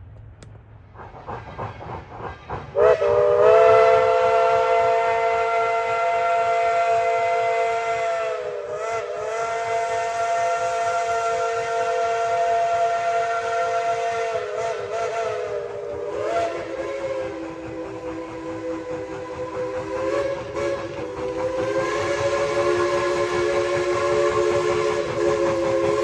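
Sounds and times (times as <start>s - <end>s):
steam locomotive chime whistle: 2.7s - 26.0s.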